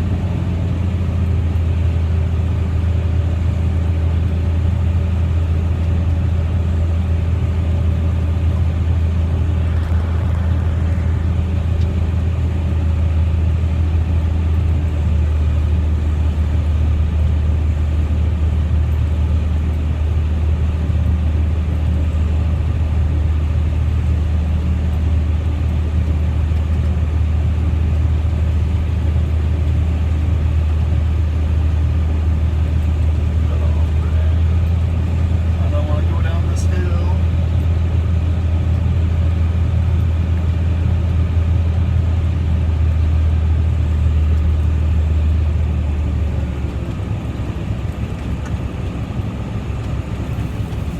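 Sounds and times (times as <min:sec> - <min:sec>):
tractor engine drone in cab: 0:00.0 - 0:50.9.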